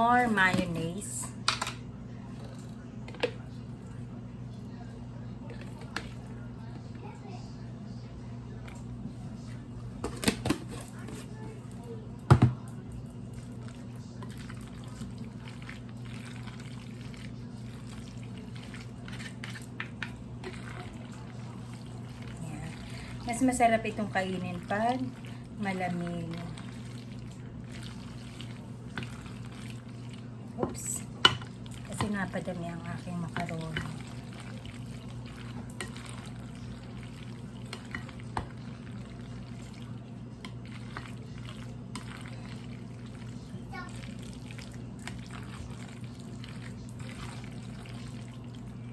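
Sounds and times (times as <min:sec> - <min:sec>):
salad stirred in a bowl: 0:05.5 - 0:06.6, 0:10.6 - 0:48.9.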